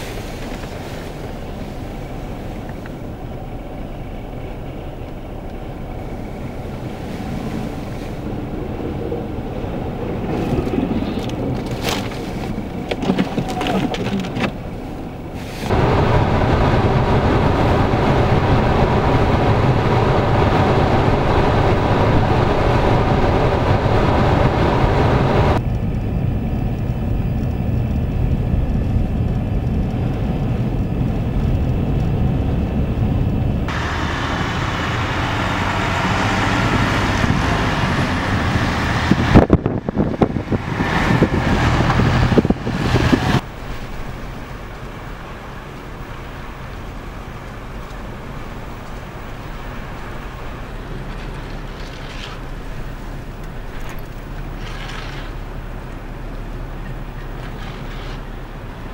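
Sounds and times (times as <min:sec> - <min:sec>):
wind rushing over microphone: 0:00.0 - 0:51.8
wind buffeting microphone: 0:00.0 - 0:54.6
vehicle engine running: 0:00.0 - 0:58.9.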